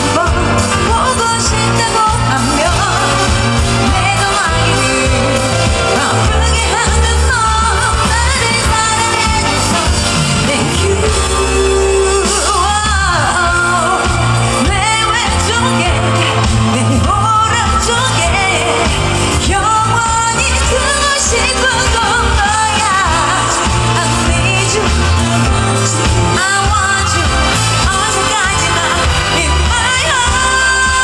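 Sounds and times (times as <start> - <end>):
amplified backing music with bass: 0.0 - 31.0
woman singing into a microphone: 0.0 - 31.0.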